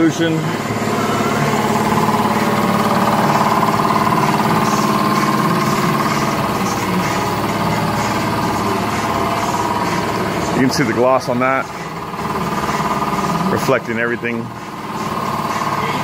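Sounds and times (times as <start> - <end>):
machine engine drone: 0.0 - 16.0.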